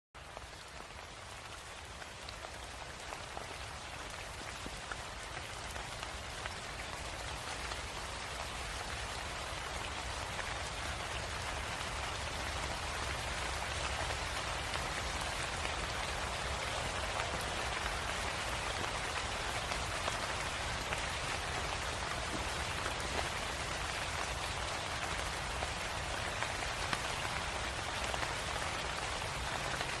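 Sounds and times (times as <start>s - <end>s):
steady rain falling: 0.2s - 30.0s.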